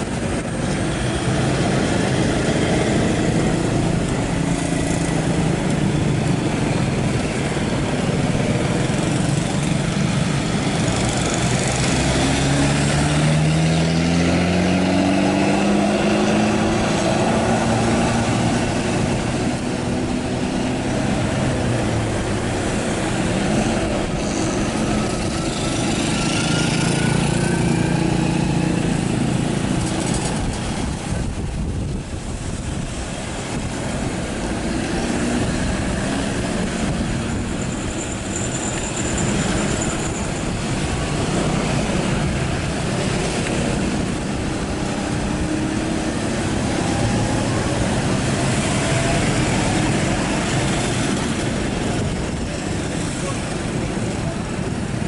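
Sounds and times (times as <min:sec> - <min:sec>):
road roller engine running: 0:00.0 - 0:55.0.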